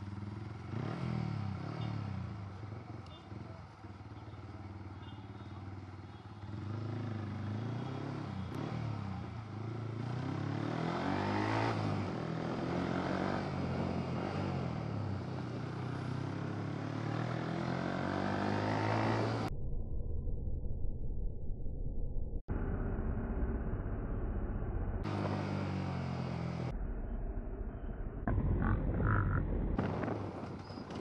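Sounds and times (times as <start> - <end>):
motorcycle engine revving: 0.0 - 19.5, 22.6 - 31.0.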